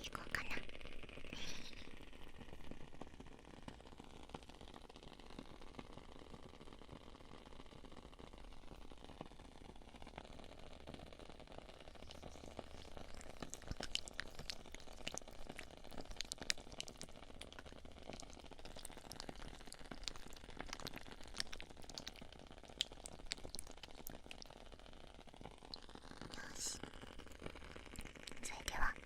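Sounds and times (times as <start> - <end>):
candle crackling: 0.0 - 29.0
soft hiss: 0.0 - 29.0.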